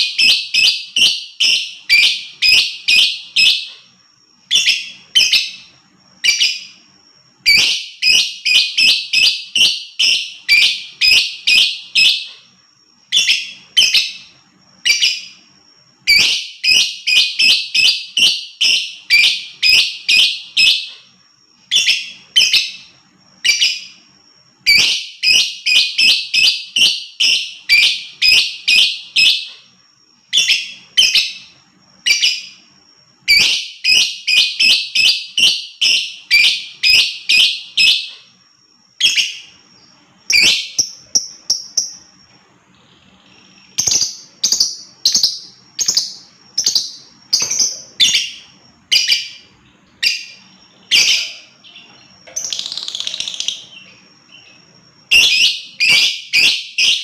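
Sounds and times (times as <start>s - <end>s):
lovebird chirping: 0.0s - 57.0s.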